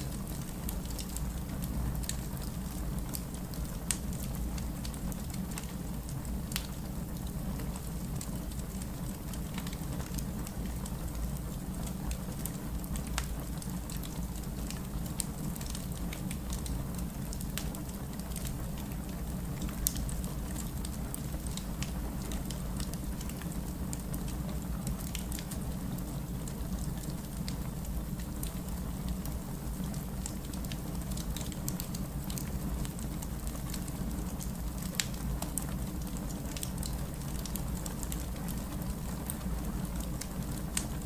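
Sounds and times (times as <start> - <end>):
fire crackling and snapping: 0.0 - 41.0
wood fire burning: 0.0 - 41.0.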